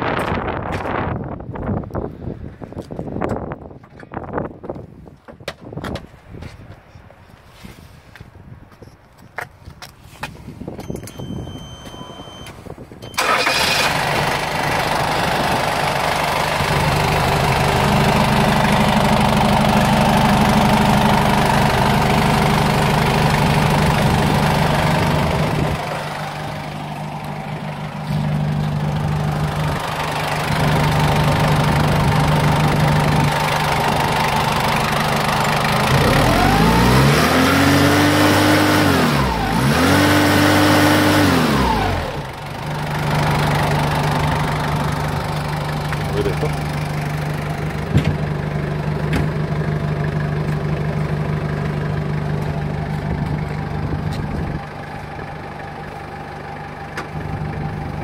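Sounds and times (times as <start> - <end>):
diesel forklift engine idling: 10.8 - 58.0.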